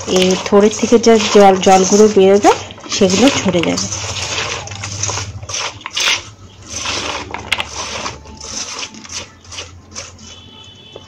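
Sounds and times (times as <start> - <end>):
vegetable sticks rustling in colander: 0.0 - 10.5.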